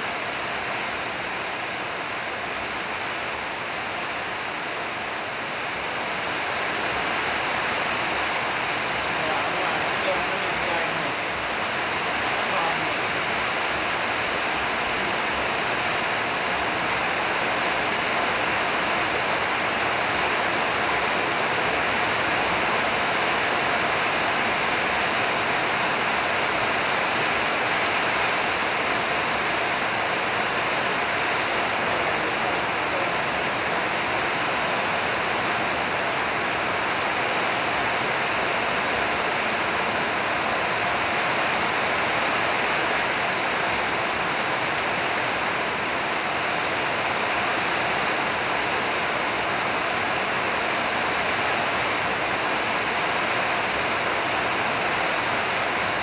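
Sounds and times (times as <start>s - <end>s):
loud steady rushing hiss: 0.0s - 56.0s.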